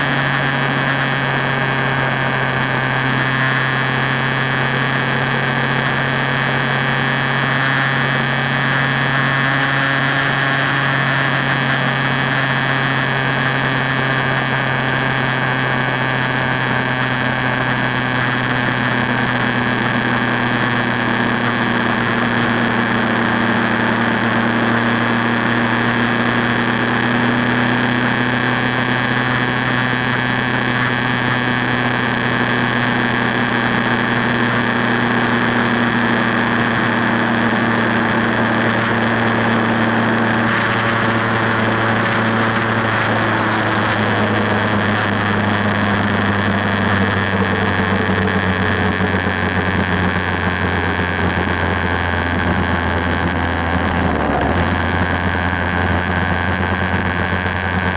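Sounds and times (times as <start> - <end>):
motorcycle engine cruising: 0.0 - 57.9.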